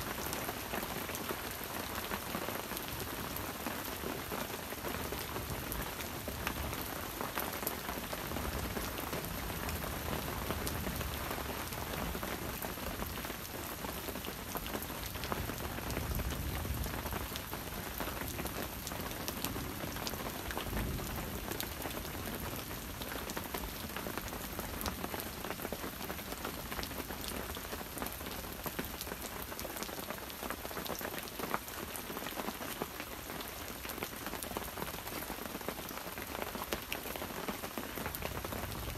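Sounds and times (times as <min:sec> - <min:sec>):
steady rain in forest: 0:00.0 - 0:38.9.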